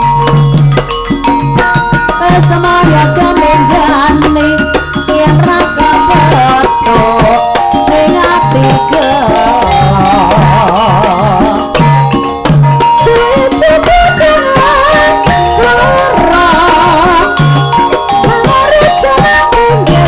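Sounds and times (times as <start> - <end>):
hand drums beating: 0.0 - 20.0
wavering held melody: 0.0 - 20.0.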